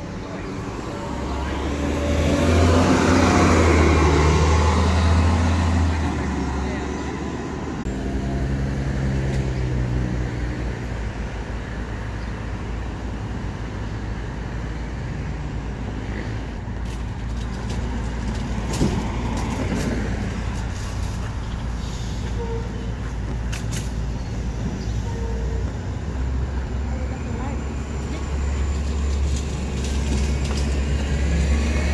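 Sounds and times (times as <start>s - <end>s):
bus engine drone: 0.0s - 31.9s
street traffic: 0.0s - 31.9s.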